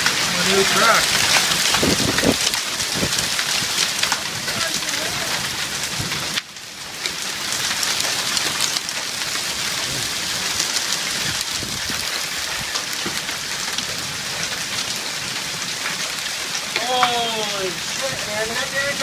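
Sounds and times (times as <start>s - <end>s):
hail clattering: 0.0s - 19.0s
heavy rain: 0.0s - 19.0s.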